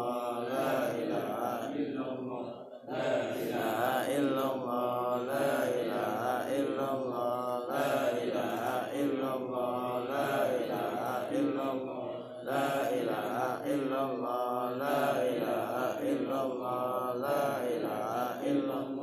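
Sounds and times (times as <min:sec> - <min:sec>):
man chanting melodically: 0:00.0 - 0:19.0.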